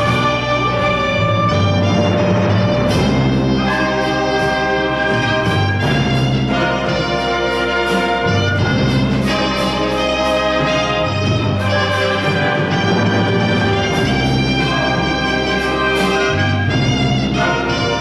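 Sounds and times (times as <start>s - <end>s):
orchestra with brass chords: 0.0s - 18.0s.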